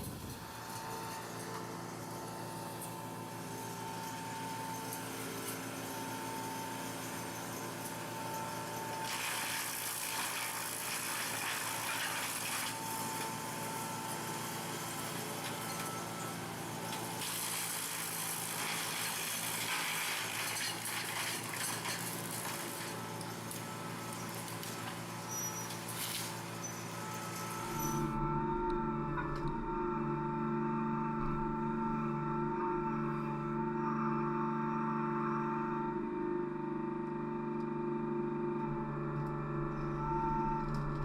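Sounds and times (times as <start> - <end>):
machine engine running: 0.0 - 33.8.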